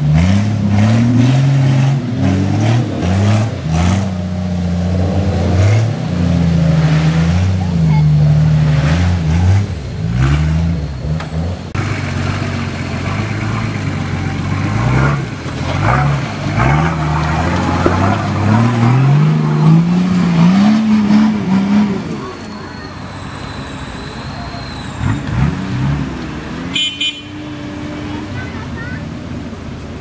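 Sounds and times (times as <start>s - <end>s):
vehicle engine revving: 0.0s - 30.0s.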